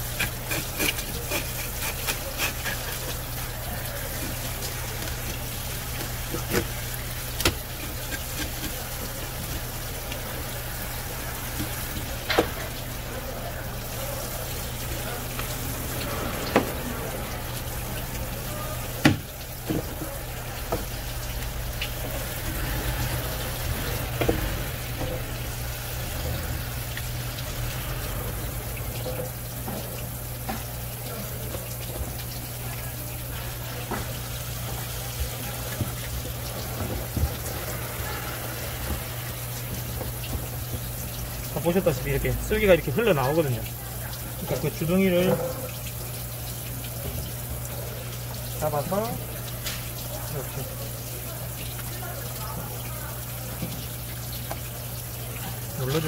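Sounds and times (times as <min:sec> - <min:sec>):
tap water running: 0:00.0 - 0:56.0.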